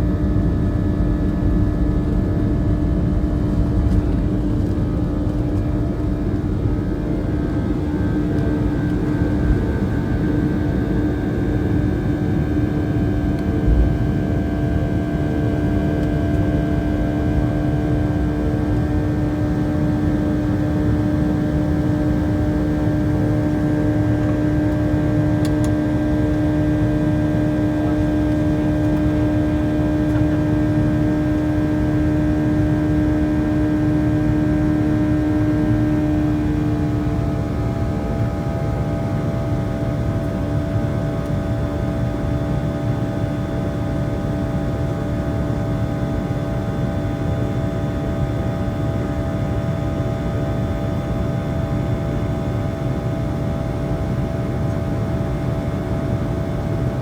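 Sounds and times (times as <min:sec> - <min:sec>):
airplane cabin engine noise: 0:00.0 - 0:57.0.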